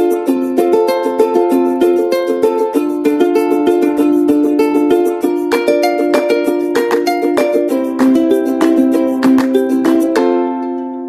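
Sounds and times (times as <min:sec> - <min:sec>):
strummed string instrument chords: 0:00.0 - 0:11.0.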